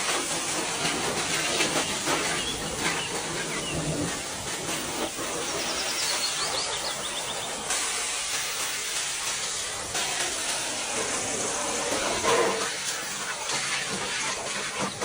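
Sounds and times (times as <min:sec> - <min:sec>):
pressure washer spray hissing: 0:00.0 - 0:15.0.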